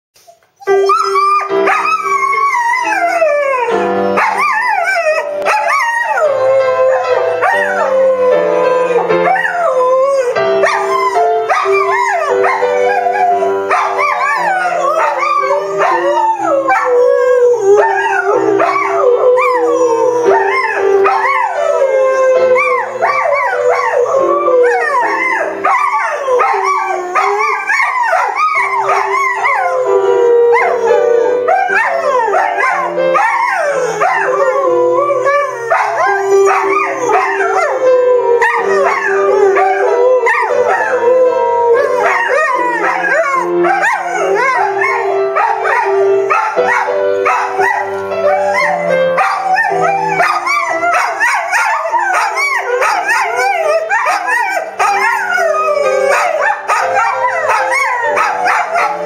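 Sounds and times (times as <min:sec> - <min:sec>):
music with held notes: 0:00.2 - 0:59.0
dogs howling: 0:00.7 - 0:59.0.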